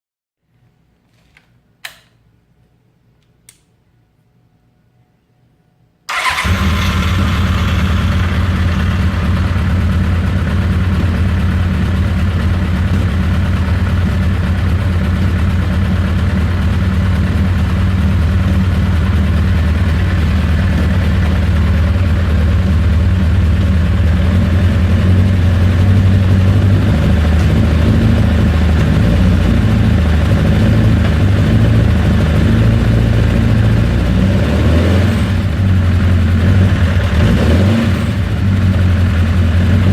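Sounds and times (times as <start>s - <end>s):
engine idling roughly: 6.1s - 34.3s, 35.3s - 39.9s.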